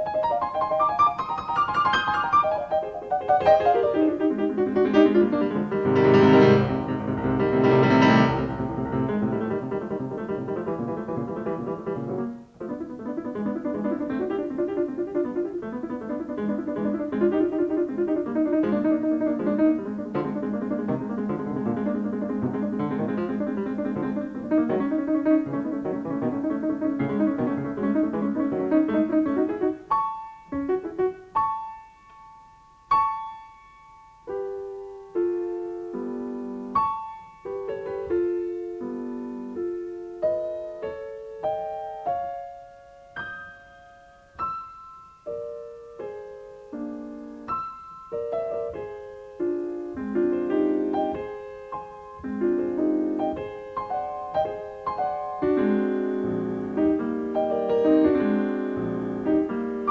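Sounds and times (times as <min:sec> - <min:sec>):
grand piano classical piece: 0:00.0 - 0:59.9.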